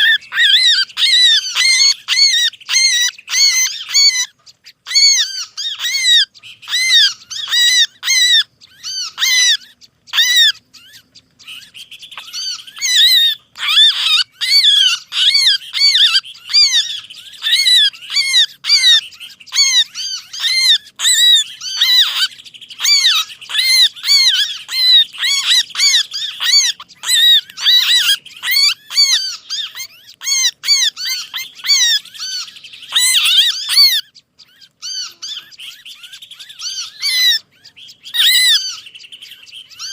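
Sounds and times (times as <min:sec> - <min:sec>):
songbirds chirping: 0:00.0 - 0:39.9
steady high bird trill: 0:00.0 - 0:39.9.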